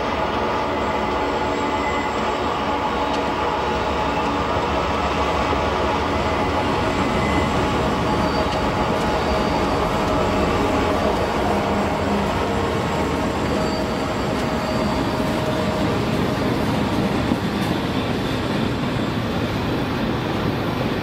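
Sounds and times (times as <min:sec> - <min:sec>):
locomotive engine drone: 0:00.0 - 0:21.0
train rumble: 0:00.0 - 0:21.0.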